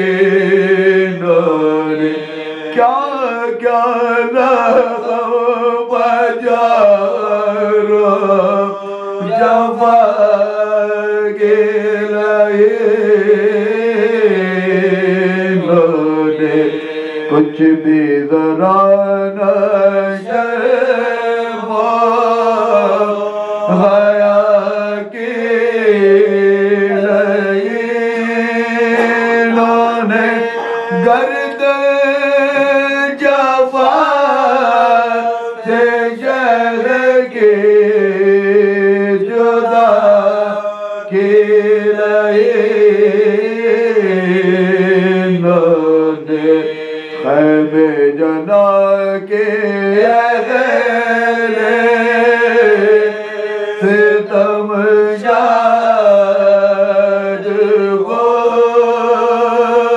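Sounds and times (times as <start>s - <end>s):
men chanting: 0.0s - 59.9s.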